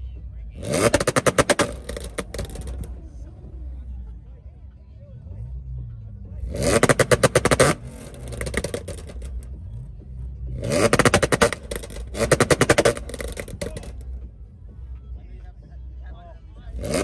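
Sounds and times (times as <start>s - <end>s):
exhaust crackling and popping: 0.0s - 4.2s, 5.4s - 17.0s
car engine revving: 0.0s - 17.0s
low engine idle rumble: 0.0s - 17.0s.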